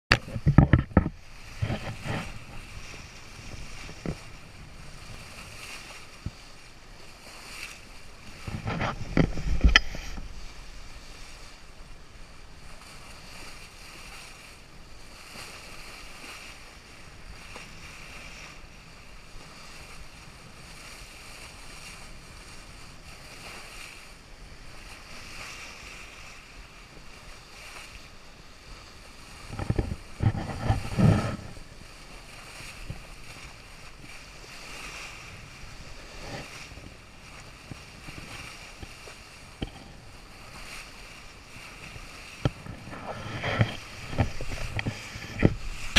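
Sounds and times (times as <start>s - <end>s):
water rushing along a hull: 0.1s - 45.9s
wind buffeting microphone: 0.1s - 45.9s.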